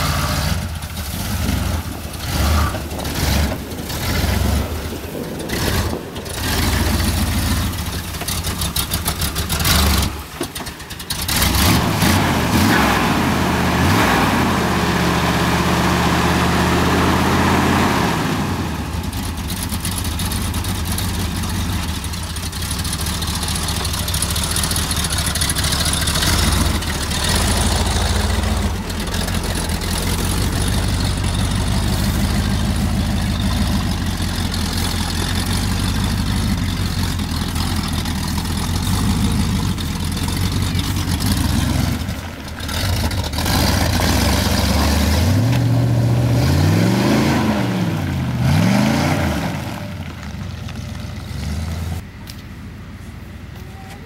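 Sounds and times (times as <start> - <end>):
truck engine idling and revving: 0.0 - 54.0.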